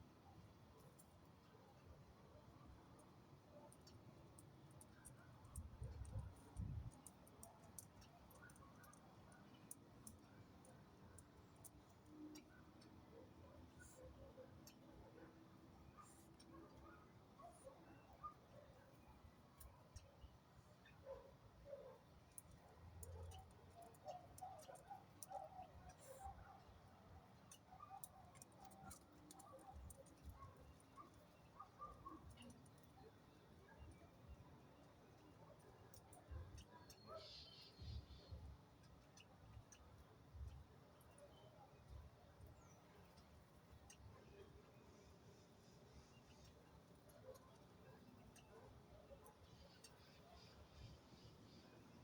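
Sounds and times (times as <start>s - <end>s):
faint high-pitched ticks: 0.0s - 52.0s.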